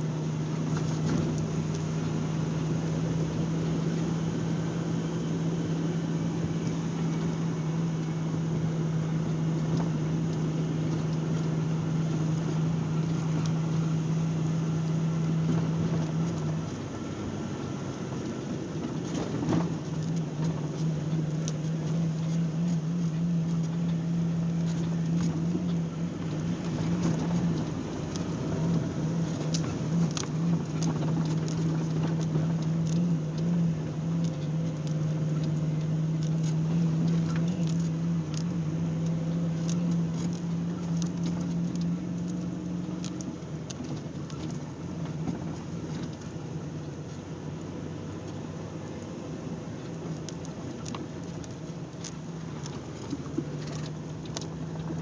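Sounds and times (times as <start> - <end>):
off-road vehicle engine running: 0.0 - 55.0
dense patter of small ticks: 6.1 - 55.0.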